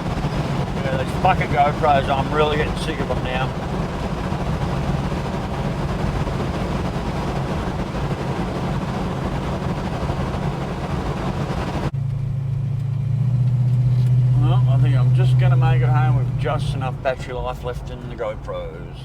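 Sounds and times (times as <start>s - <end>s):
car engine drone: 0.0s - 19.0s
road and wind hiss: 0.0s - 19.0s.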